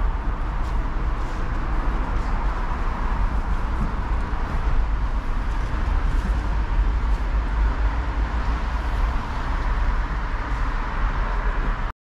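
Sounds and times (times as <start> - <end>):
road traffic noise: 0.0 - 11.9.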